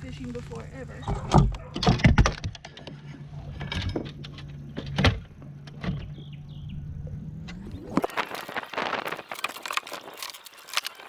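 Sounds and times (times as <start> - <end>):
low motor hum: 0.0 - 9.9.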